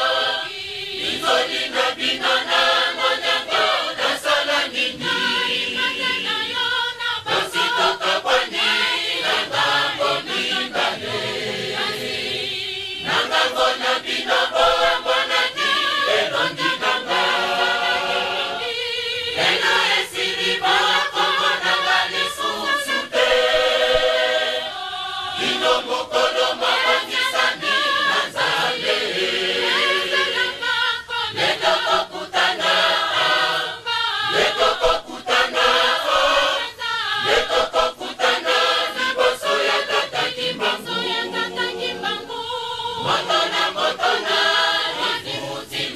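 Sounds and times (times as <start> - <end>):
choir singing in harmony: 0.0 - 45.9.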